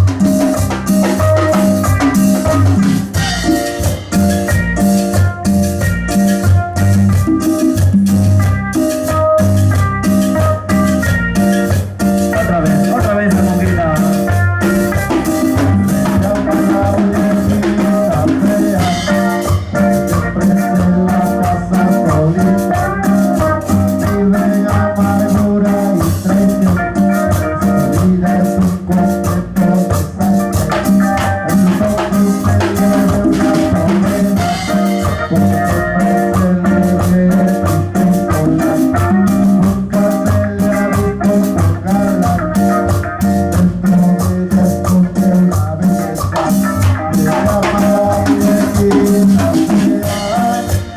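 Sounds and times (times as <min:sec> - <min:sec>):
drums: 0:00.0 - 0:50.9
electric guitar melody: 0:00.0 - 0:50.9
shaker-like percussion: 0:00.0 - 0:50.9.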